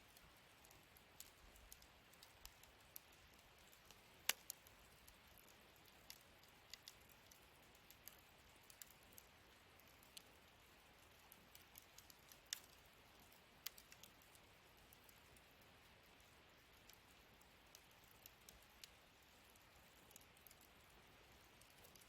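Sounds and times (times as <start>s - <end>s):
faint steady hiss: 0.0s - 22.0s
wood fire crackling: 0.0s - 22.0s.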